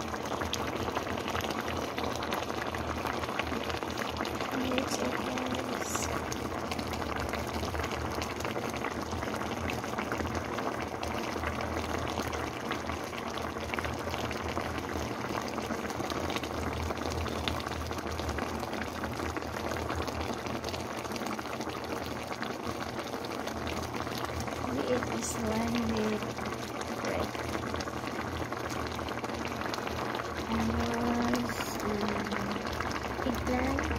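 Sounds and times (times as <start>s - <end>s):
stew bubbling in a pan: 0.0s - 33.9s.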